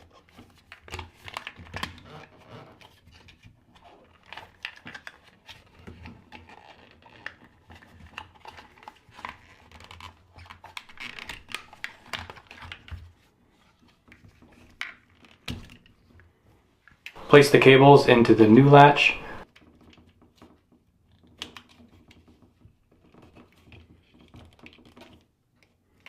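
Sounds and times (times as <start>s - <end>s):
plastic clicks and scrapes: 0.0s - 16.3s, 19.4s - 26.0s.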